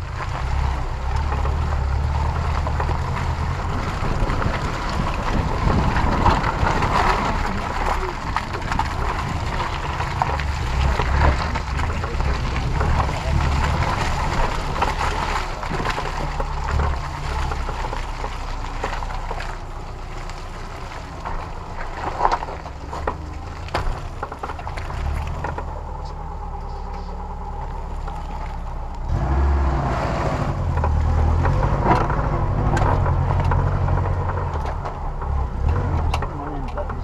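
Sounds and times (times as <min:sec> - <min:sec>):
vehicle body knocking over bumps: 0:00.0 - 0:26.5, 0:30.4 - 0:37.0
off-road vehicle engine running: 0:00.0 - 0:37.0.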